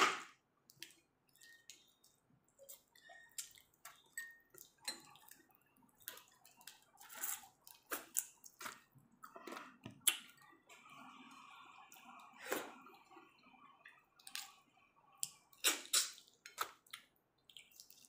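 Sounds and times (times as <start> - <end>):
wet chewing and lip-smacking: 0.7 - 11.0, 11.6 - 18.0.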